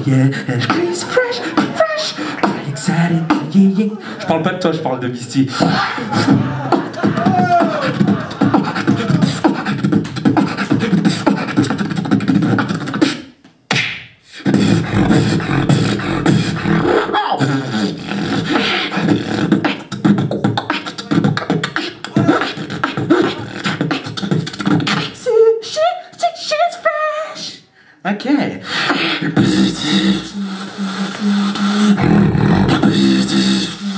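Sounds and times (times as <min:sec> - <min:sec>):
person beatboxing: 0:00.0 - 0:27.6, 0:28.6 - 0:33.9
held pitched vocal notes: 0:00.0 - 0:27.7, 0:28.6 - 0:33.9.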